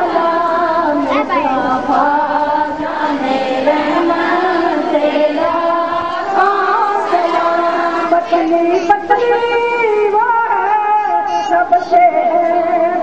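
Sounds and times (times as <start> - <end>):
women singing devotional song: 0.0 - 13.0.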